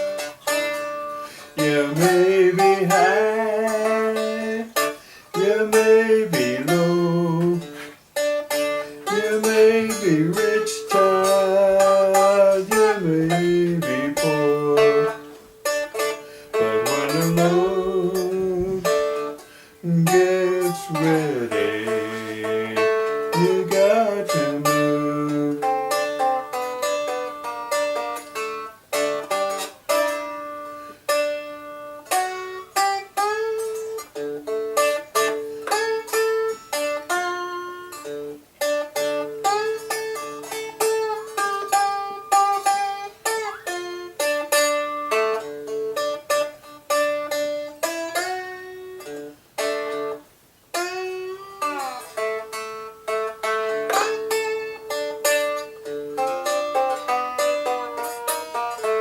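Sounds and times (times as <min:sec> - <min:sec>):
fingerpicked blues guitar: 0:00.0 - 0:59.0.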